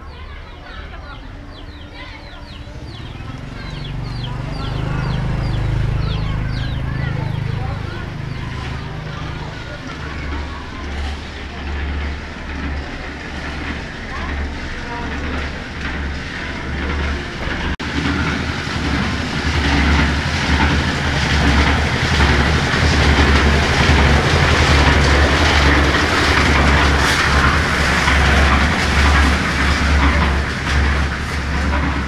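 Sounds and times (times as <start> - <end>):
bicycle rattling on rough road: 0.1 - 32.0.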